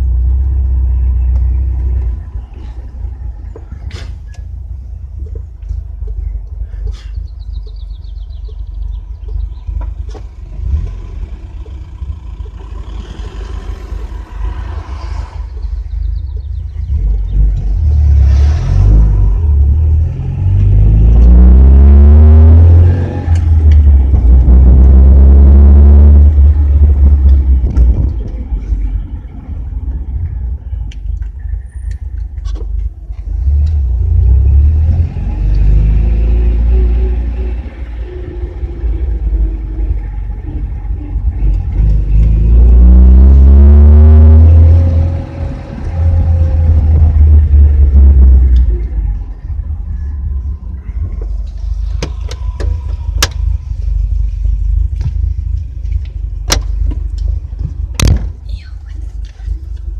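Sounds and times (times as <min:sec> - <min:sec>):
road noise inside car: 0:00.0 - 0:59.9
car engine accelerating: 0:07.6 - 0:58.4.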